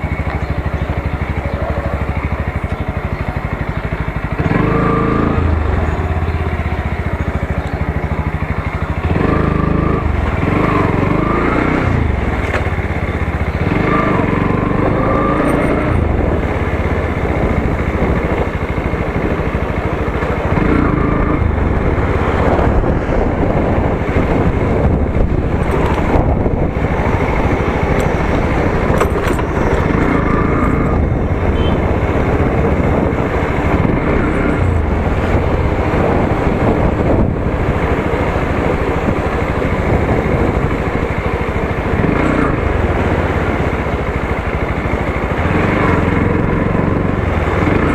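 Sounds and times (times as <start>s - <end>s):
motorcycle engine revving: 0.0s - 47.9s
road and wind noise: 0.0s - 47.9s.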